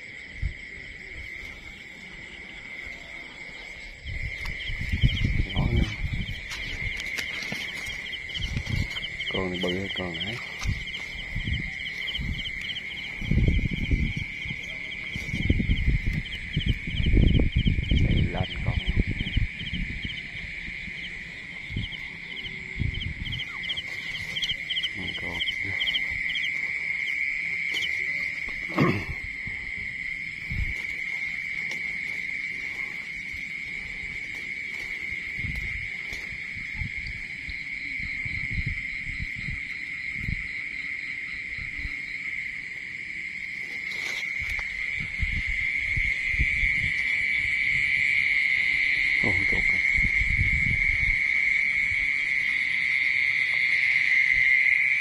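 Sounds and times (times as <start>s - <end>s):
insects trilling: 0.0s - 55.0s
pulsed insect chirping: 0.0s - 55.0s.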